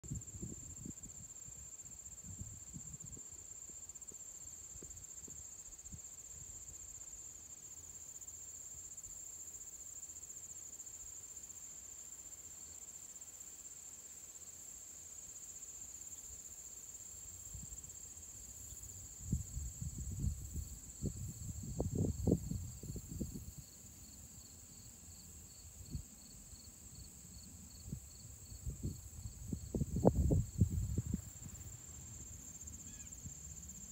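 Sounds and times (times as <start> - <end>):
slower insect chirp: 0.0 - 33.9
crickets trilling: 0.1 - 33.9.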